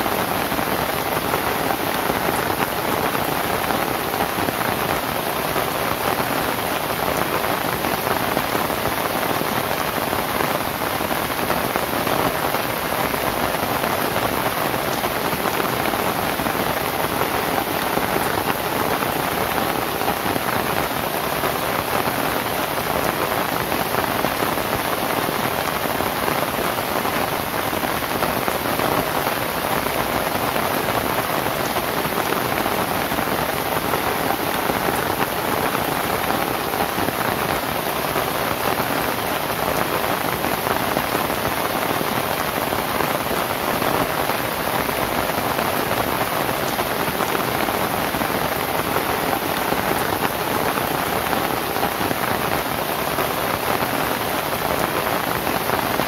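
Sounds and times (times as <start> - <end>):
rain on thatched roof: 0.0 - 56.0.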